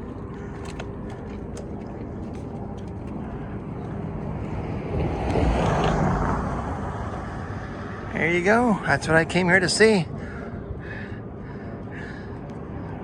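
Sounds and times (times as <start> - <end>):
road traffic: 0.0 - 13.0
vehicle passing close: 0.0 - 13.0.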